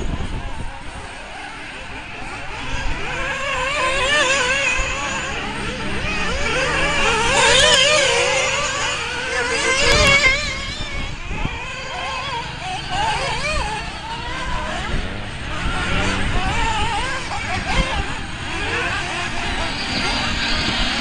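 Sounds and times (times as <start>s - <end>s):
radio-controlled buggy motors whining: 0.0s - 21.0s.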